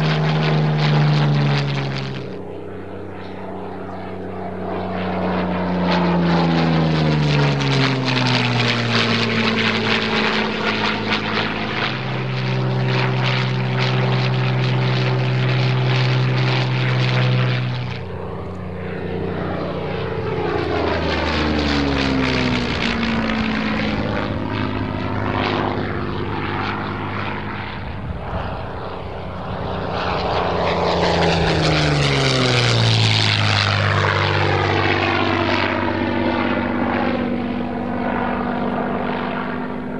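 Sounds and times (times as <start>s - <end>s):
propeller plane engine flying past: 0.0s - 39.9s.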